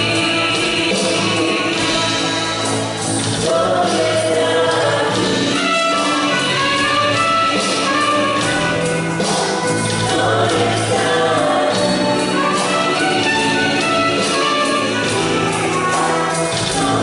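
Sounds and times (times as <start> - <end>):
choir singing gospel music: 0.0 - 17.0.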